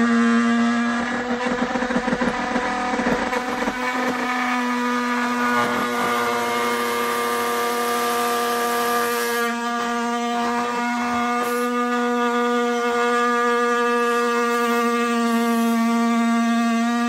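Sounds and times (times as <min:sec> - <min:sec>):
oscillating multi-tool buzzing: 0:00.0 - 0:17.0.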